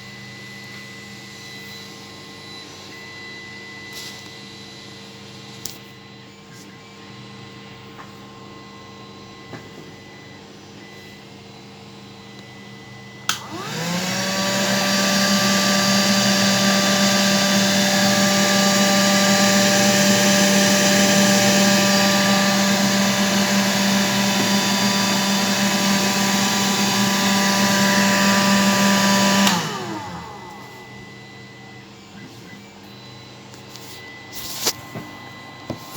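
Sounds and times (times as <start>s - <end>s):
vacuum cleaner motor whine: 0.0s - 35.9s.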